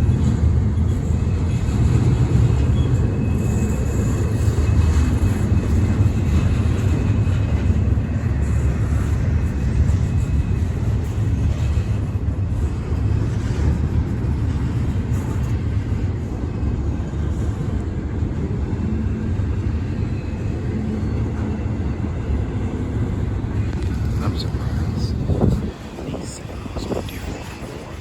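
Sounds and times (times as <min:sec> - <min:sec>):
freight train rumbling on track: 0:00.0 - 0:28.0.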